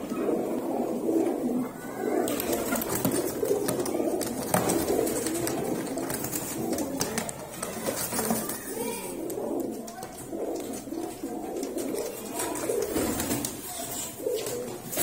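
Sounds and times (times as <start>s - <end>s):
pigeons cooing: 0.0s - 15.0s
wings fluttering: 2.1s - 15.0s.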